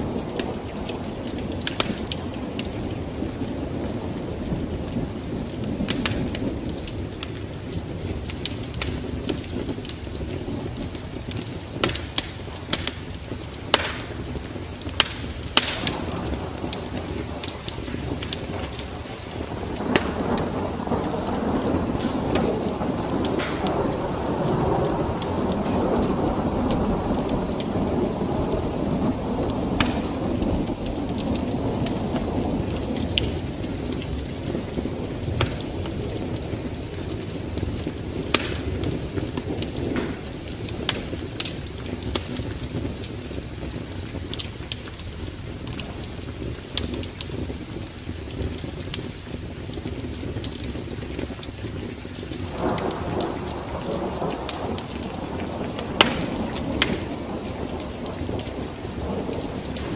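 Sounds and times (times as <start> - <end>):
fire crackling and popping: 0.0 - 59.9
rush of flames: 0.0 - 59.9.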